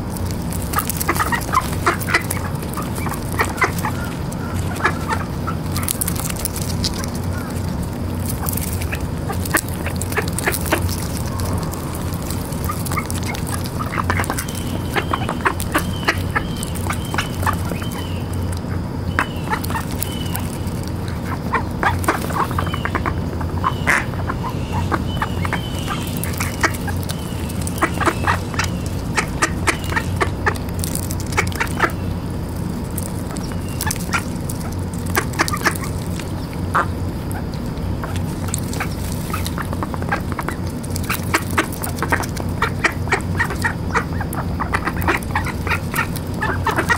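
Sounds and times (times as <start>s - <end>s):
duck bills clicking: 0.0s - 46.9s
ducks quacking: 0.0s - 46.9s.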